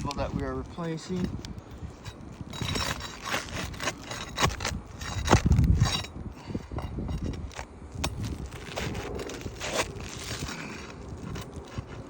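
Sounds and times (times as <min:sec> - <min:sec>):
scraping of roof shingles: 0:00.0 - 0:12.0.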